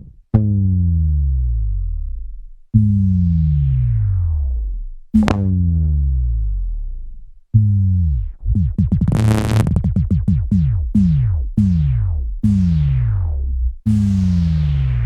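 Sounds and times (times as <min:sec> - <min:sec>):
electric bass sliding notes: 0:00.0 - 0:15.0.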